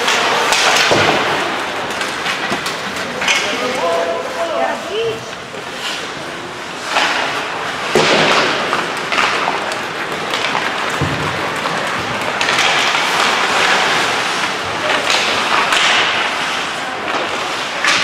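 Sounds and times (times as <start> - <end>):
hockey sticks and puck clacking: 0.0 - 18.0
skates scraping ice: 0.0 - 18.0.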